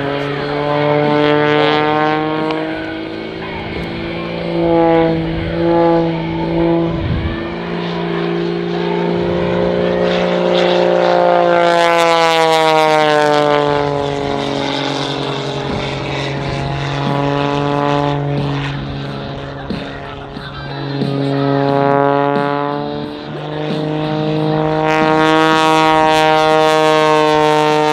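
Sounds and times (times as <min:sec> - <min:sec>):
propeller plane passing by: 0:00.0 - 0:27.9.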